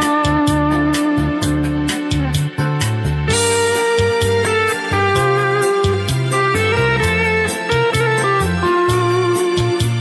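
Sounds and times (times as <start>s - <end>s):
bass line: 0.0s - 10.0s
electric guitar lead melody: 0.0s - 10.0s.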